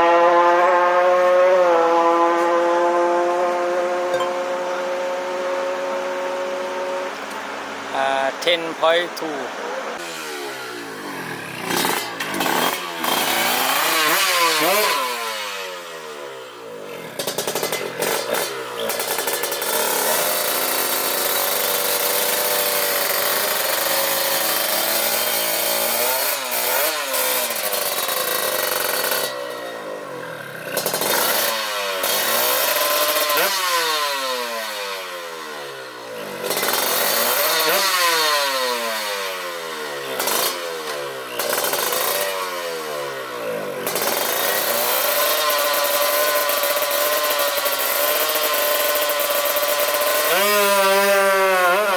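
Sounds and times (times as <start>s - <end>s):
two-stroke motorcycle engine revving: 0.0s - 51.9s.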